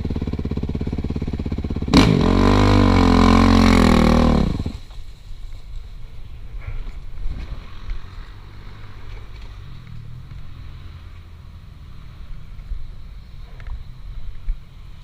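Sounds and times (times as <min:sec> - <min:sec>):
dirt bike engine idling low: 0:00.0 - 0:15.0.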